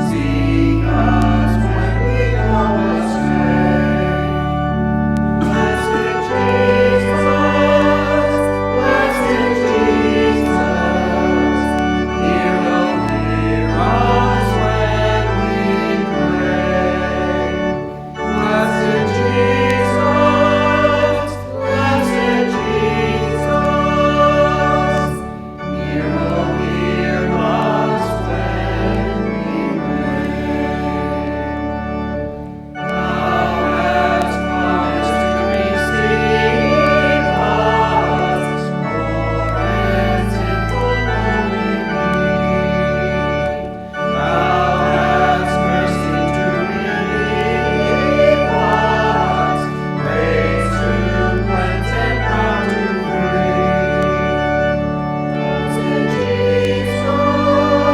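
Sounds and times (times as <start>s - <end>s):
people singing: 0.0s - 4.6s, 5.3s - 31.4s, 32.8s - 57.9s
organ sustained chords: 0.0s - 57.9s.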